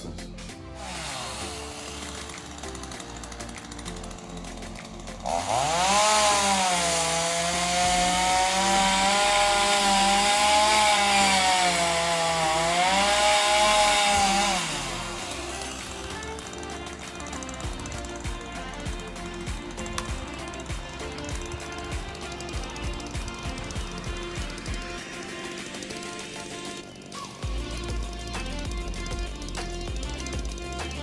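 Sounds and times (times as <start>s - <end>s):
two-stroke chainsaw revving: 0.0s - 31.0s.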